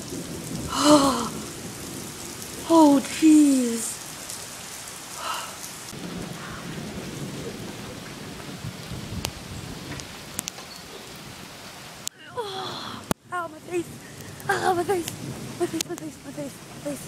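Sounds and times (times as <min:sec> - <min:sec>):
raindrops ticking on device: 0:00.0 - 0:11.0, 0:12.0 - 0:12.2, 0:13.0 - 0:17.0
thunder rumbling: 0:00.0 - 0:11.5, 0:12.2 - 0:17.0
heavy rain hiss: 0:00.0 - 0:17.0.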